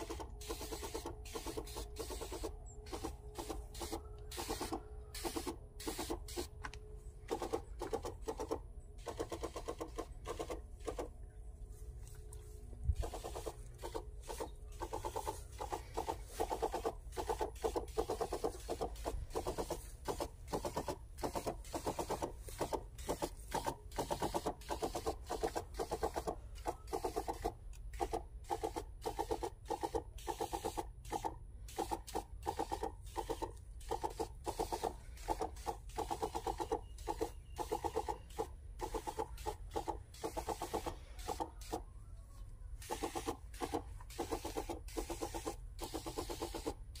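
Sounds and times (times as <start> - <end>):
sprayer pump pulsing buzz: 0.0 - 11.2, 12.0 - 41.8, 42.8 - 47.0.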